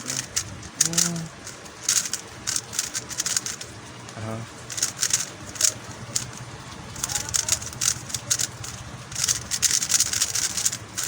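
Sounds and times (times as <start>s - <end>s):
puzzle cube clicking: 0.0s - 11.0s.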